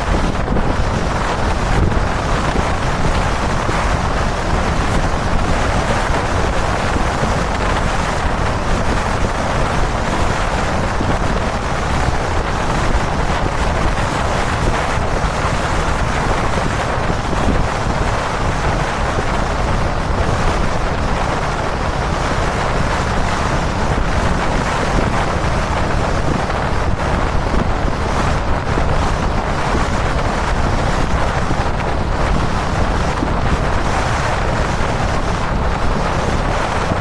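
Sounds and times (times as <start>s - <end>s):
low motorcycle engine: 0.0s - 37.0s
road noise: 0.0s - 37.0s
wind rush on microphone: 0.0s - 37.0s.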